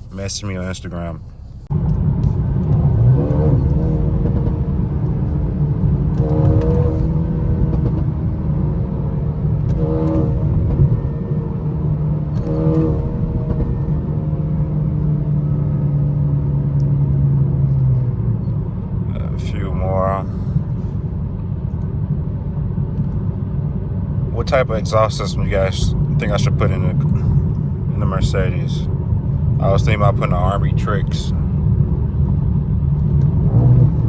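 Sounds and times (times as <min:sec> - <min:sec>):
exhaust crackles: 0:00.0 - 0:34.0
car engine accelerating: 0:00.9 - 0:34.0.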